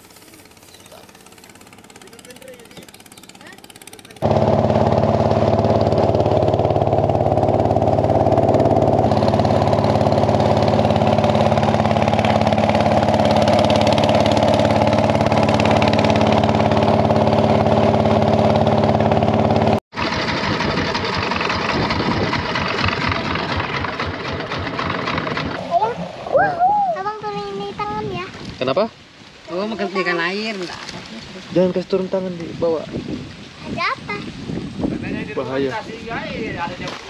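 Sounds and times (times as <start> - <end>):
motorboat engine humming: 0.0 - 32.4
water rushing past hull: 0.0 - 37.0.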